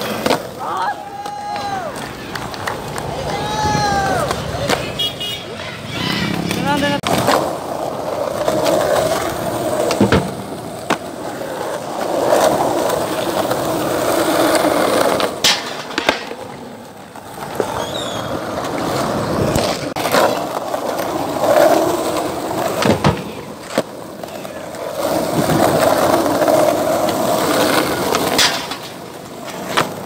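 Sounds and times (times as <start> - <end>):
skateboard clacks: 0.0 - 30.0
skateboard wheels rolling on concrete: 0.0 - 30.0.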